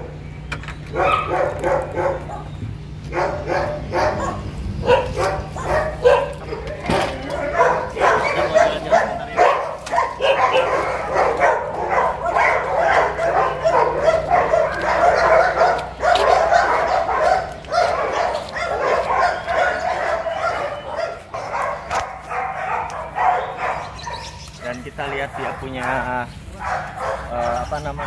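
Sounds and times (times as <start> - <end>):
dogs barking: 0.0 - 28.0.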